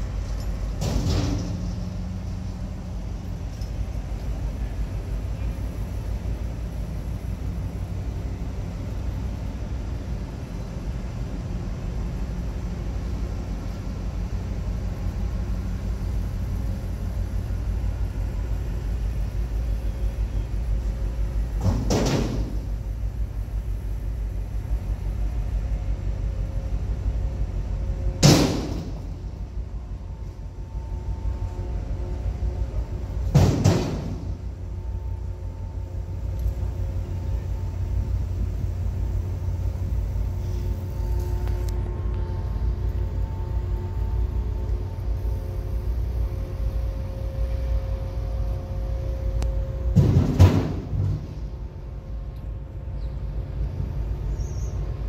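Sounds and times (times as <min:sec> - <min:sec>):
ship low rumble: 0:00.0 - 0:55.0.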